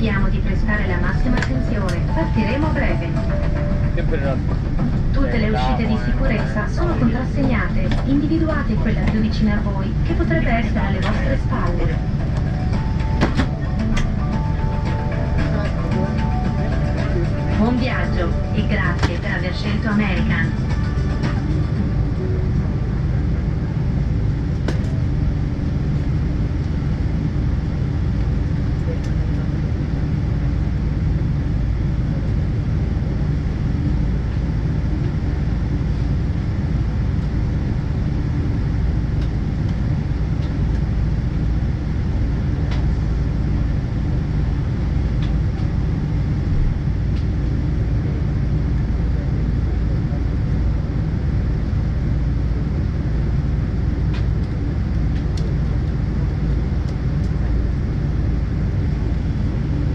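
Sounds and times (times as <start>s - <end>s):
airliner cabin rumble and hiss: 0.0s - 59.9s.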